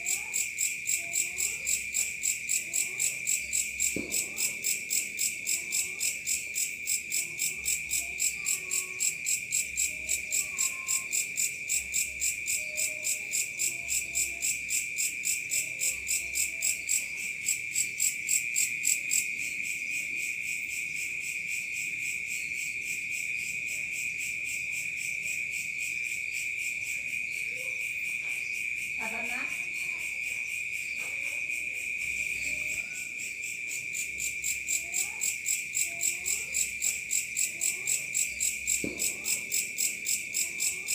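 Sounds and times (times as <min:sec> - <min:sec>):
high-pitched cricket trill: 0:00.0 - 0:40.9
insect chirping in rapid pulses: 0:00.0 - 0:40.9.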